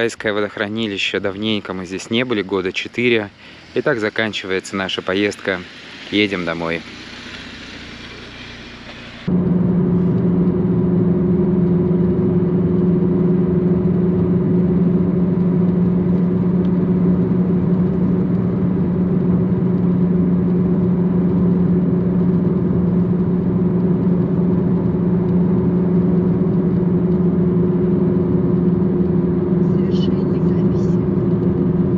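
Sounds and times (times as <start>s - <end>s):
car cabin engine and road hum: 0.0s - 31.9s.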